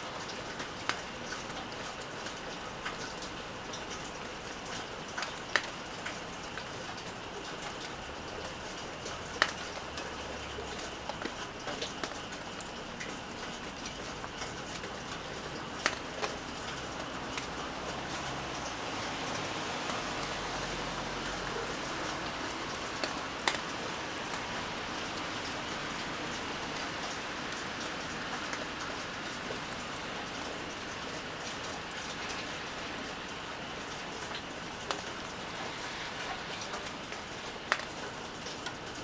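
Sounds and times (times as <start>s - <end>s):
steady rain: 0.0s - 39.0s
loud raindrops striking: 0.2s - 39.0s.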